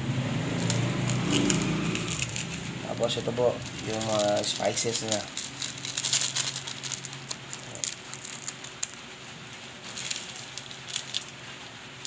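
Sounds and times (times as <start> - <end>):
plastic sachet crinkling: 0.6 - 12.0.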